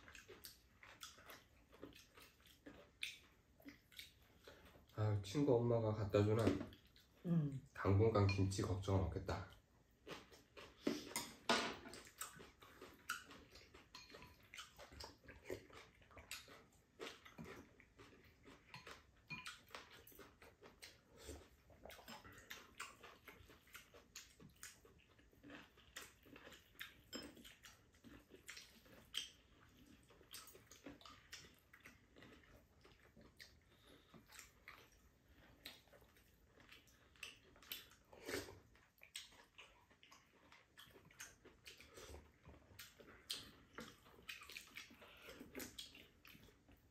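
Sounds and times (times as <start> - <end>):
chewing: 0.0 - 5.4, 6.3 - 7.8, 9.4 - 46.9.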